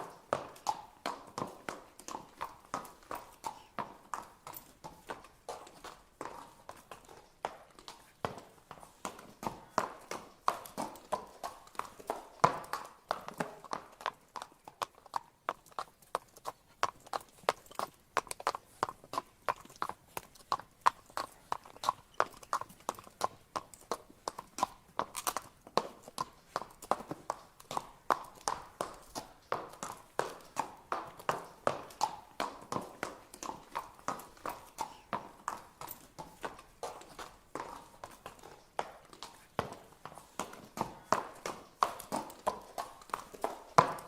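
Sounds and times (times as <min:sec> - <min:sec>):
horse hooves clip-clopping: 0:00.0 - 0:44.0.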